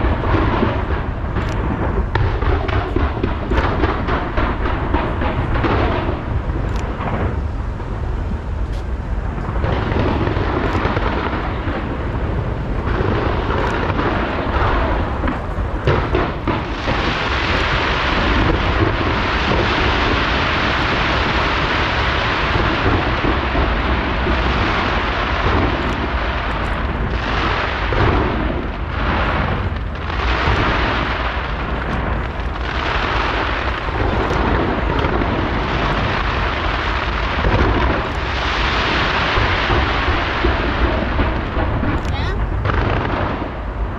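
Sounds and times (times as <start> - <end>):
fireworks bursts rumbling: 0.0 - 43.9
fireworks crackling hiss: 0.0 - 43.9.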